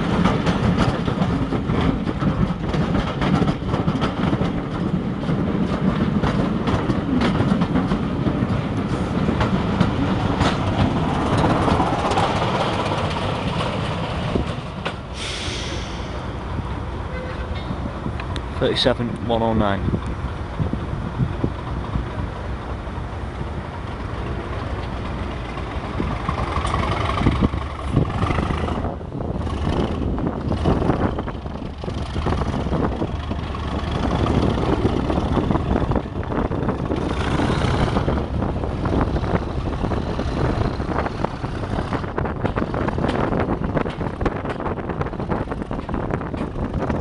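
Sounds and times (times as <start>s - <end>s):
diesel locomotive engine running: 0.0s - 47.0s
wind buffeting microphone: 0.0s - 47.0s.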